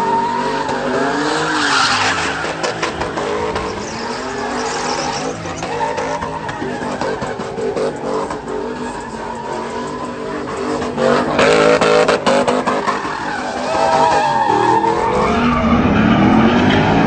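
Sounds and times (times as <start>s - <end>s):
car engine revving: 0.0s - 17.0s
tyres screeching on asphalt: 0.0s - 17.0s.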